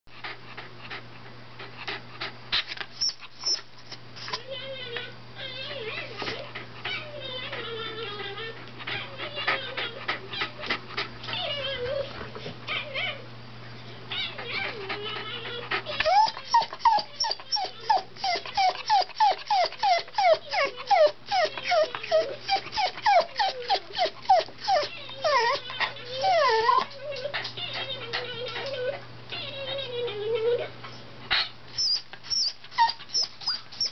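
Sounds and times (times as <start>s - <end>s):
dog whimpering and whining: 2.9s - 13.2s, 14.1s - 33.9s.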